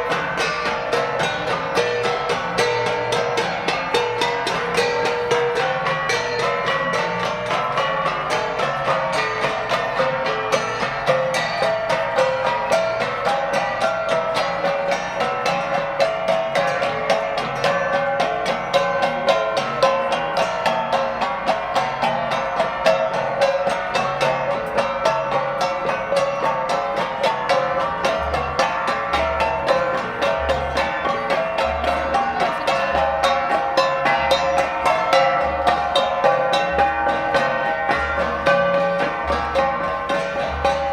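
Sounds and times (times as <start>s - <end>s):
flat gongs beaten fast: 0.0s - 40.9s.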